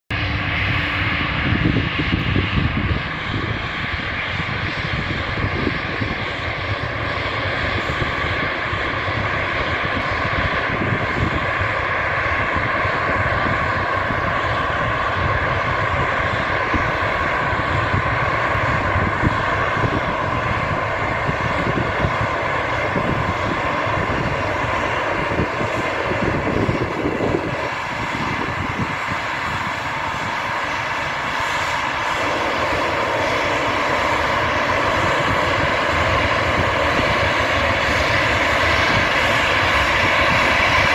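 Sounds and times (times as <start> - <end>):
jet engine whine: 0.1 - 40.9.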